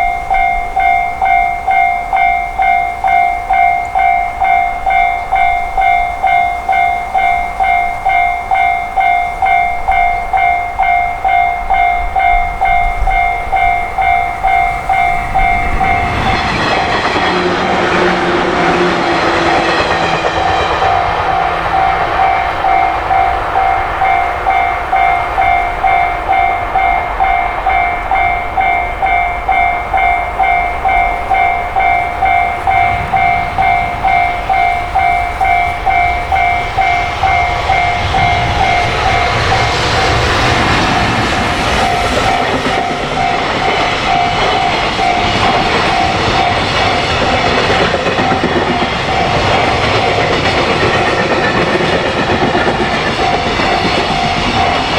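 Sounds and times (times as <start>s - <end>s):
level crossing bell ringing: 0.0s - 17.2s, 19.5s - 54.9s
train rumble: 0.0s - 54.9s.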